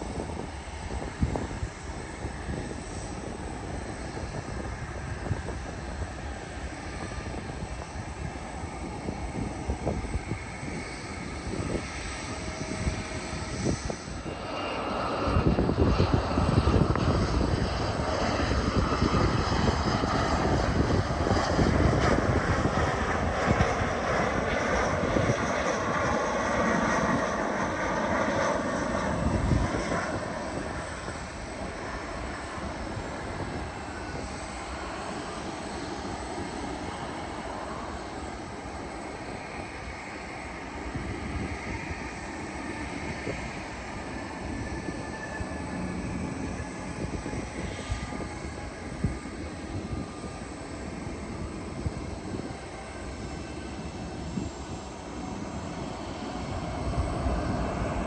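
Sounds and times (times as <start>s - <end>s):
jet airliner engines passing: 0.0s - 58.0s.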